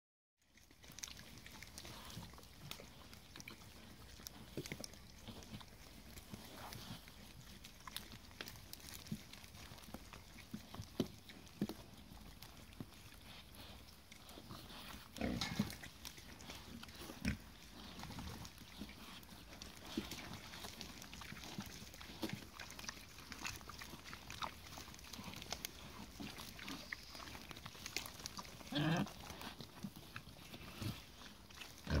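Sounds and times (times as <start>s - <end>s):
crunching and clicking of chewing: 0.5s - 32.0s
pigs grunting and snuffling: 0.5s - 32.0s.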